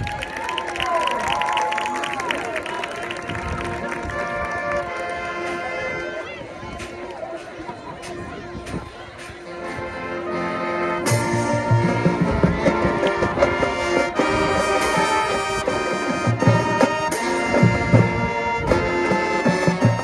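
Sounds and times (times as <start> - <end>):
marching band brass chords: 0.8 - 20.0.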